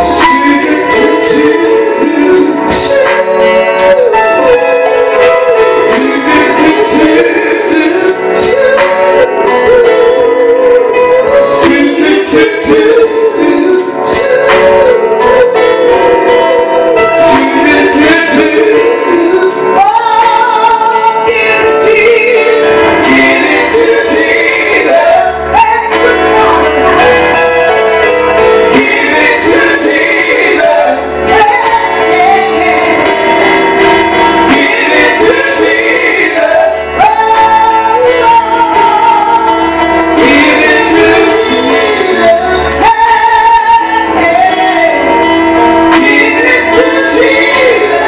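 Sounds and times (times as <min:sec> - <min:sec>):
woman singing gospel: 0:00.0 - 0:27.4, 0:28.7 - 0:33.6, 0:34.4 - 0:48.0
backing music: 0:00.0 - 0:48.0.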